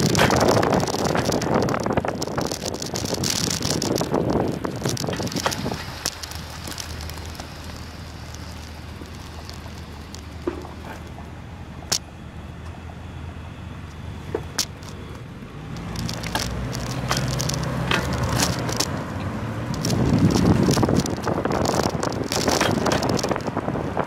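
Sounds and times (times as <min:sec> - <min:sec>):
bicycle clicks: 0:00.0 - 0:12.8, 0:13.8 - 0:24.0
bike rattling over rough pavement: 0:00.0 - 0:12.9, 0:14.2 - 0:24.0
car engine low hum: 0:00.0 - 0:24.0
wind and road noise: 0:00.0 - 0:24.0.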